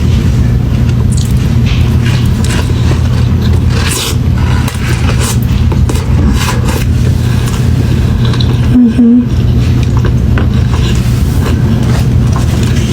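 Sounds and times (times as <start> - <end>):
crackling and scraping noises: 0.0 - 8.8, 9.4 - 12.9.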